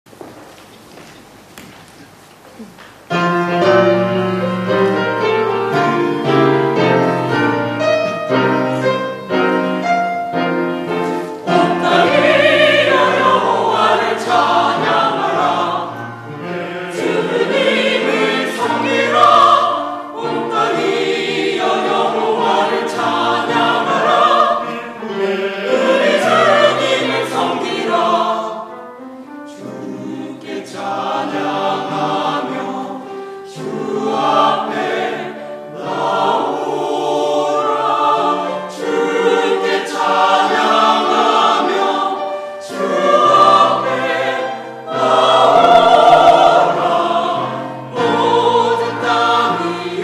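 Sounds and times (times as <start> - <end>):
piano accompaniment: 2.9 - 50.0
choir singing a hymn: 3.1 - 50.0.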